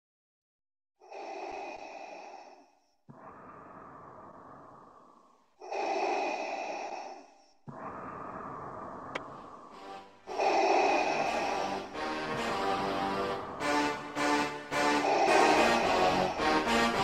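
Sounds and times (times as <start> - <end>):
slow heavy breathing: 1.0 - 17.0.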